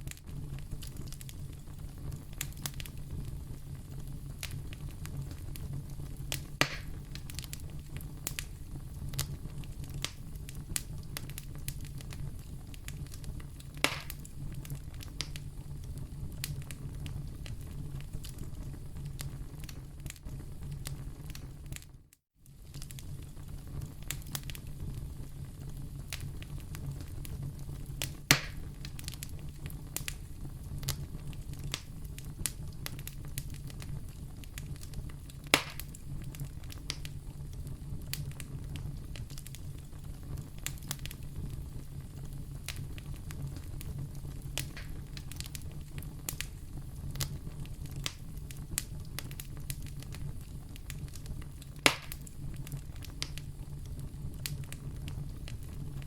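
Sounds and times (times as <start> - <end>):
sharp pops of fire: 0.0 - 21.9, 22.5 - 56.0
fire crackling: 0.0 - 56.0
low rumble of fire: 0.0 - 56.0.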